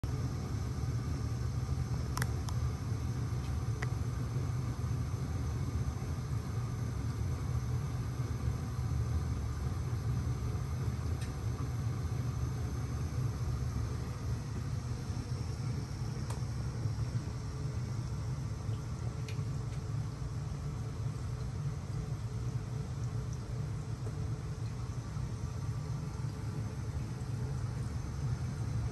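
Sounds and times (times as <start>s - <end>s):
aquarium pump hum: 0.0s - 28.9s.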